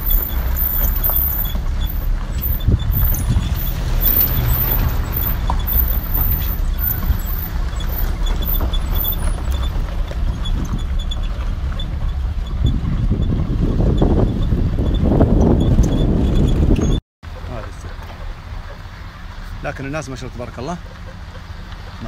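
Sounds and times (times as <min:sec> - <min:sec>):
rattles and knocks: 0:00.0 - 0:18.8
rumble of tyres and engine: 0:00.0 - 0:22.0.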